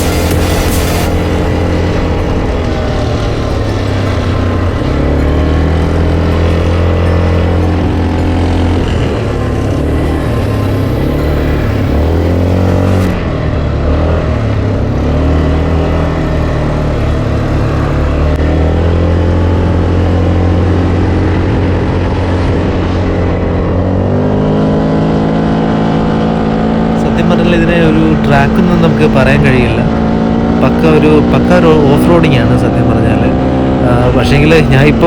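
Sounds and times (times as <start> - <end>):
atv engine revving: 0.0 - 35.0.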